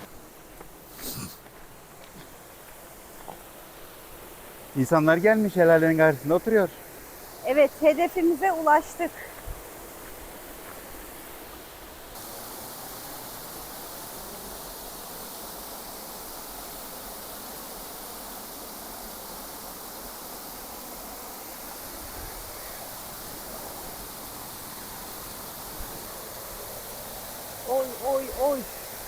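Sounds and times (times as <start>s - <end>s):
waterfall rushing: 3.7s - 11.5s, 12.1s - 29.0s.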